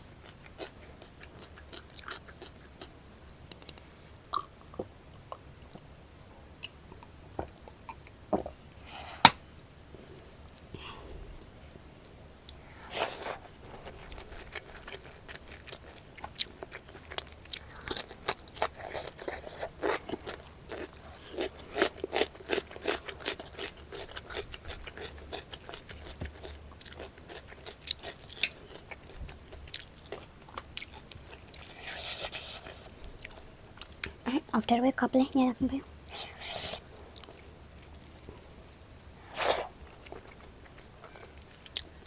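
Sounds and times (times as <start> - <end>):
crunching and chewing crisp food: 0.1 - 5.9, 10.2 - 34.2, 36.0 - 42.0.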